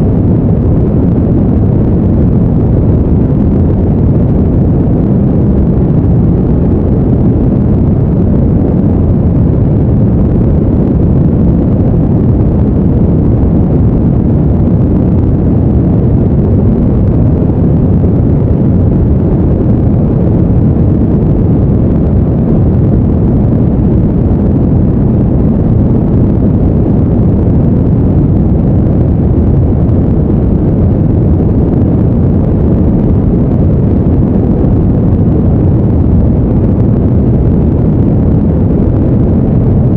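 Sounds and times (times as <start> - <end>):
deep steady noise: 0.0 - 39.9.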